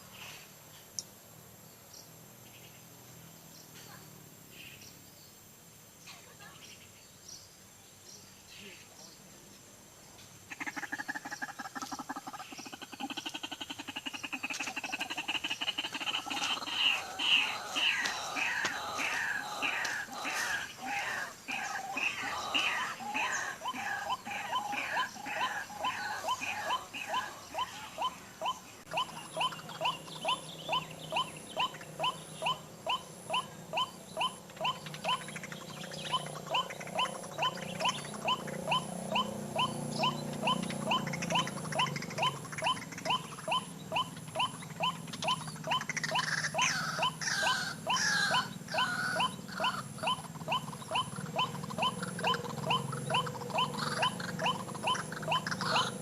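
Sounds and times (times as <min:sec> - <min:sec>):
waterhen calls: 0:10.5 - 0:56.0
wavering bird calls: 0:10.5 - 0:56.0.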